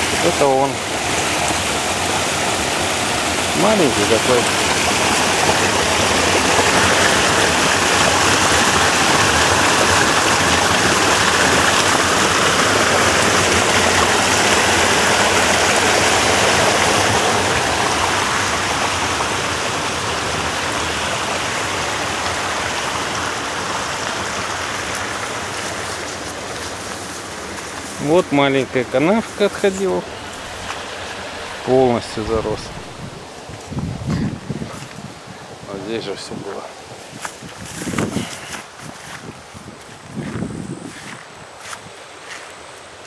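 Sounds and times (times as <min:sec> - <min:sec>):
water rushing down waterfall: 0:00.0 - 0:39.8.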